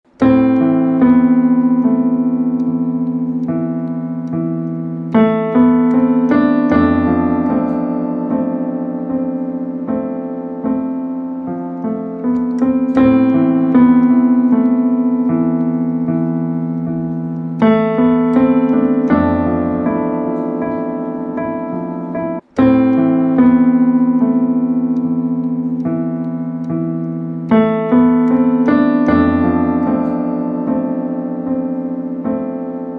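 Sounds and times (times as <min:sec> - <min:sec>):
slow piano chords: 0:00.0 - 0:32.9.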